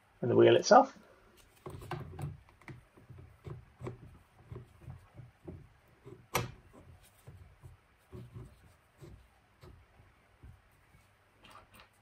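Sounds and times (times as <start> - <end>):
rubbing and handling taps: 1.4 - 12.0.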